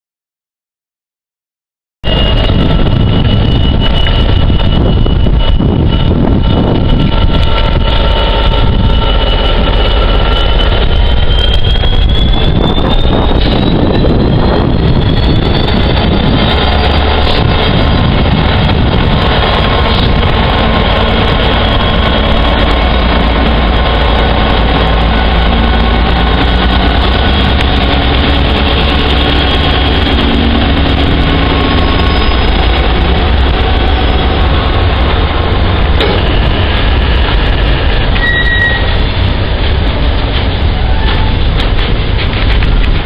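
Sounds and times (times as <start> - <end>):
high squeal: 2.0 - 39.8
diesel locomotive engine running: 2.0 - 43.0.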